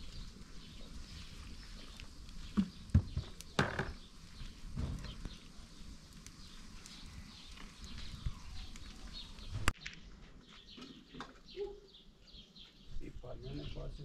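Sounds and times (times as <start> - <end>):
low outdoor background: 0.0 - 14.0
small birds chirping: 0.0 - 14.0.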